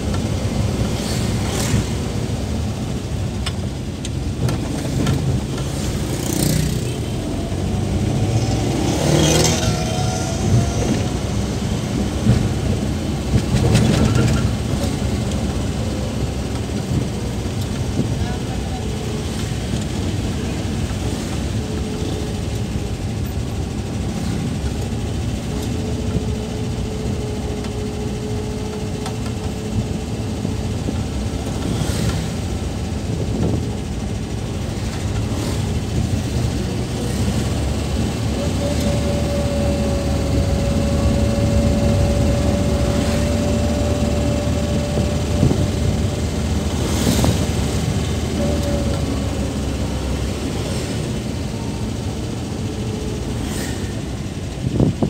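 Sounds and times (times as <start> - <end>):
pickup engine and road noise: 0.0 - 55.0.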